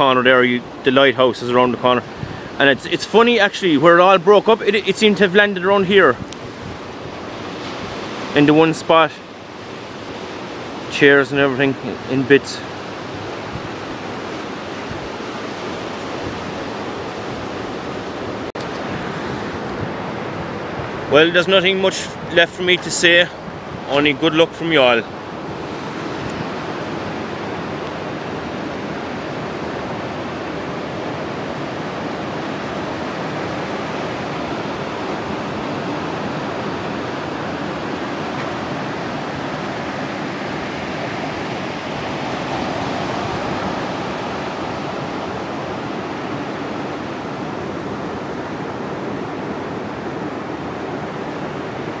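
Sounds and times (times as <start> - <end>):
surf washing onto shore: 0.0 - 52.0.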